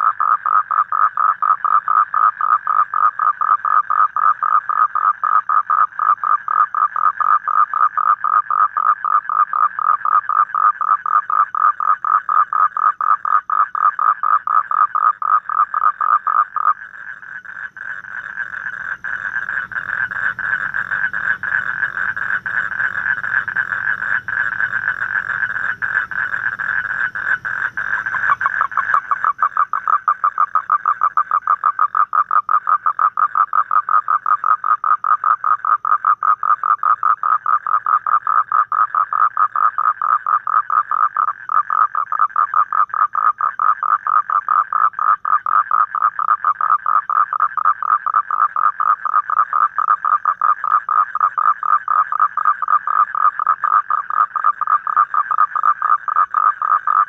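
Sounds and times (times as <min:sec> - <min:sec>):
toads calling with pulsed trill: 0:00.0 - 0:57.0.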